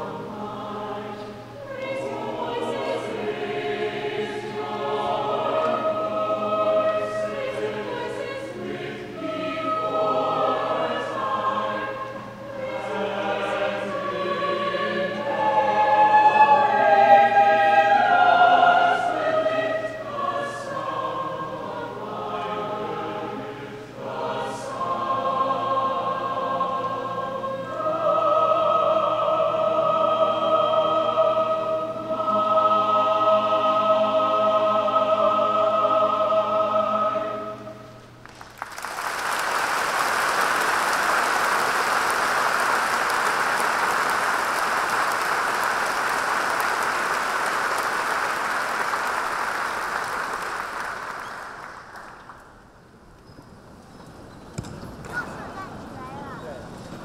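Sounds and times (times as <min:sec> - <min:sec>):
choir singing held chords: 0:00.0 - 0:38.2, 0:39.4 - 0:52.8.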